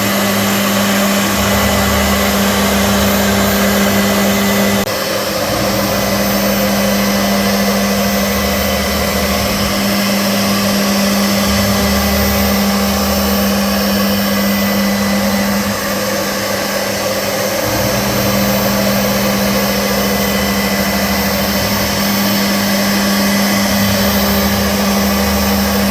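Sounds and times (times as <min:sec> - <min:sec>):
cutting noise: 0:00.0 - 0:25.9
low drone: 0:00.0 - 0:25.9
milling spindle hum: 0:00.0 - 0:25.9.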